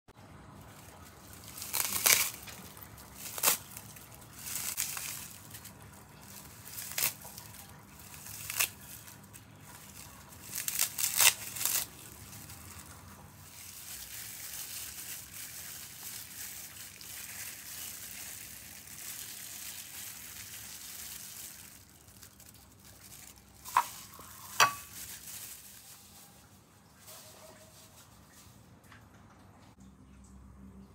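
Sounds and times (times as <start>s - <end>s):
dried seaweed crackling: 0.2s - 28.5s.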